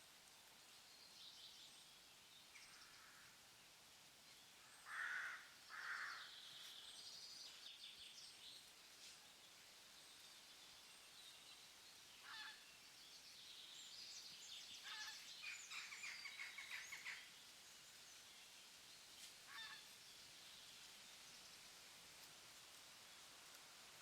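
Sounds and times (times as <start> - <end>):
steady background hiss: 0.0 - 24.0
forest birds calling: 0.7 - 3.4, 4.3 - 21.6.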